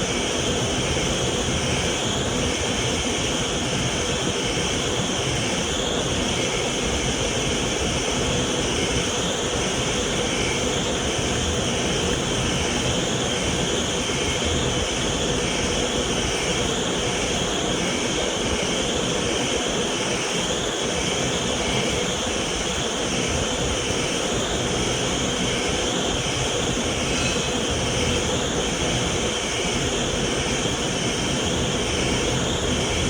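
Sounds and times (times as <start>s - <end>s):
vacuum cleaner motor running: 0.0s - 33.0s.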